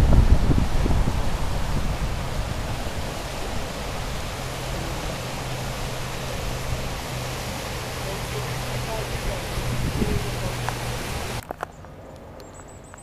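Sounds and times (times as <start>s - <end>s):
wind rumble on microphone: 0.0s - 11.4s
floodwater rushing: 0.0s - 11.5s.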